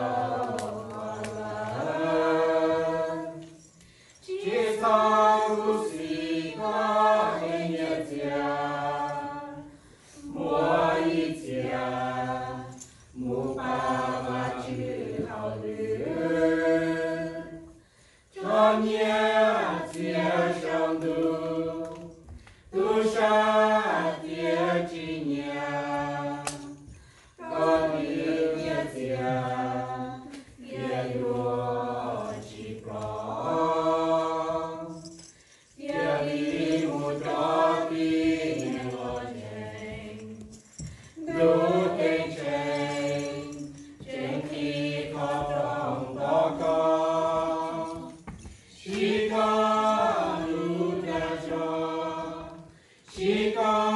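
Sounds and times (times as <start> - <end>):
group singing unaccompanied: 0.0 - 53.9.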